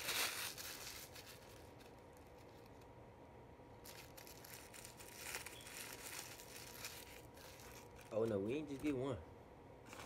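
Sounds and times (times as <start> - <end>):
paper wrapper crinkling: 0.0 - 2.9, 3.8 - 9.0.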